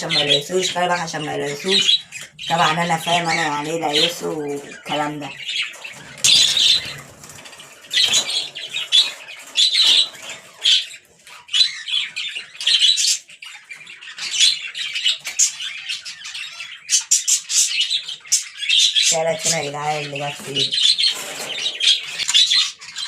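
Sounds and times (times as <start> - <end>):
pet birds squawking and chirping: 0.0 - 23.0.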